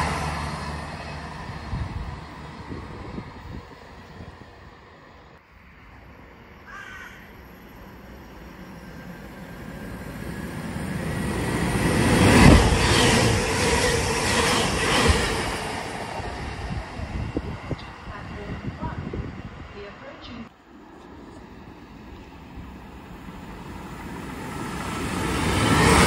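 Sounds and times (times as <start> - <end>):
passenger train rumble: 0.0 - 26.0.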